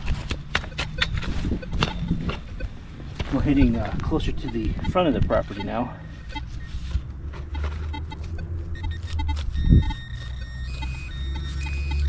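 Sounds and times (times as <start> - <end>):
metal detector beeping: 0.5 - 12.0.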